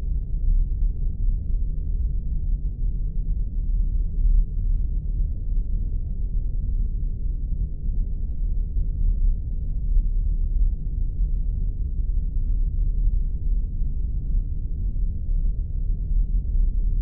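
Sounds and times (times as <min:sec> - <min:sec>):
deep rumbling drone: 0:00.0 - 0:17.0.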